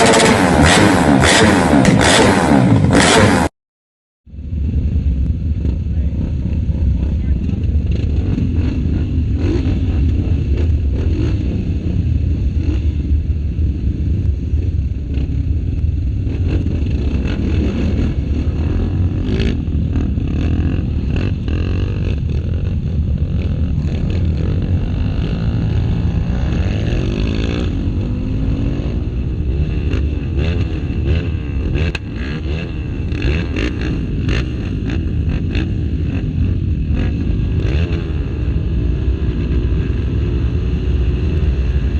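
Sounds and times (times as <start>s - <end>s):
dirt bike engines revving: 0.0s - 3.5s, 4.5s - 41.9s.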